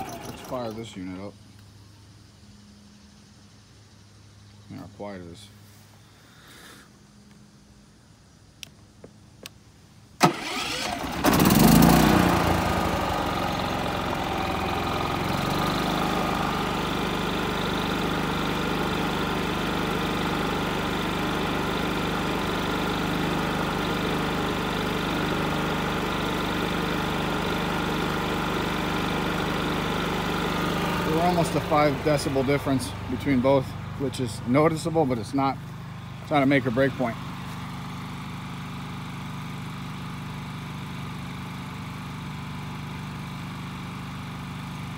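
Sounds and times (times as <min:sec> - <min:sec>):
generator engine cranking and running: 0:00.0 - 0:01.4, 0:10.2 - 0:44.9.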